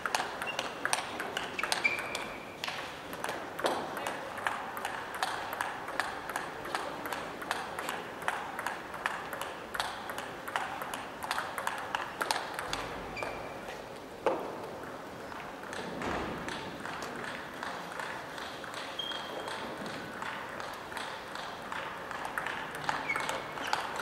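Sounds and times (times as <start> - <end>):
table tennis ball clicking: 0.0 - 13.4, 15.6 - 24.0
sports hall background noise: 0.0 - 24.0.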